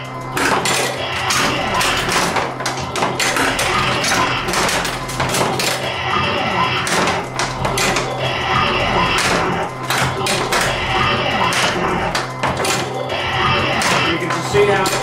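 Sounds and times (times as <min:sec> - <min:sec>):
pinball balls clacking off flippers: 0:00.0 - 0:15.0
pinball game music: 0:00.0 - 0:15.0
pinball sound effects: 0:00.0 - 0:15.0.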